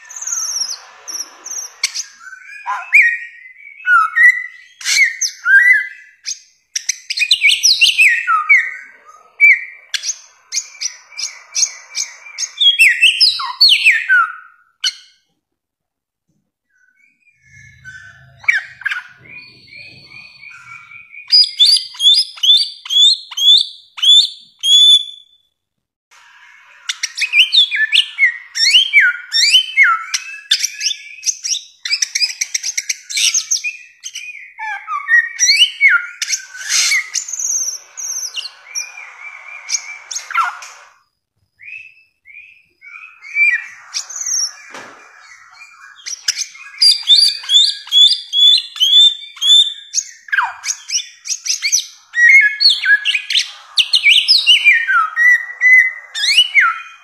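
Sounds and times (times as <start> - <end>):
bird whistling song: 0.0 - 15.3, 16.6 - 25.5, 26.2 - 57.0.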